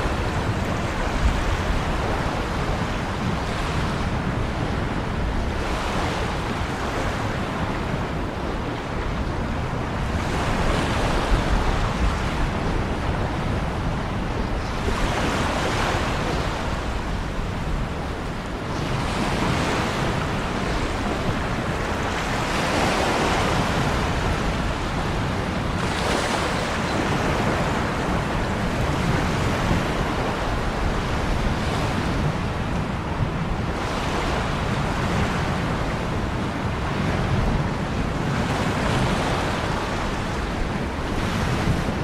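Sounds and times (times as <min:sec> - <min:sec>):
ocean waves washing in: 0:00.0 - 0:42.0.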